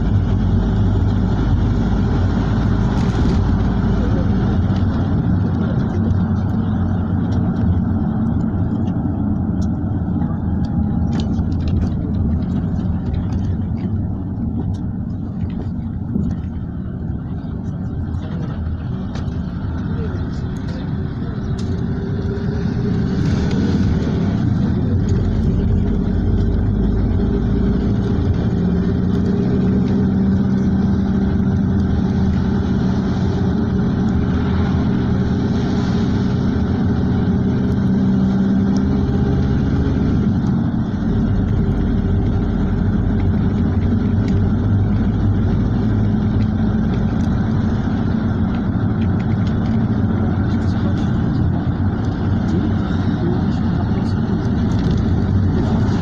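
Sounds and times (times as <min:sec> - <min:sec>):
road noise: 0:00.0 - 0:56.0
vehicle engine hum: 0:00.0 - 0:56.0.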